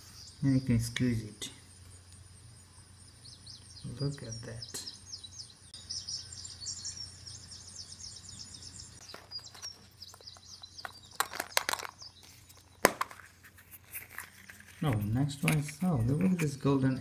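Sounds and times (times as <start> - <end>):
small birds twittering: 0.0 - 17.0.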